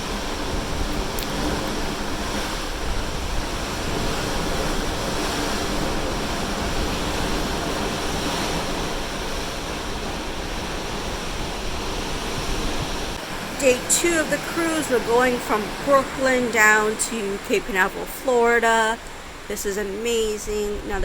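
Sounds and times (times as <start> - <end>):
ocean waves rushing: 0.0 - 21.0.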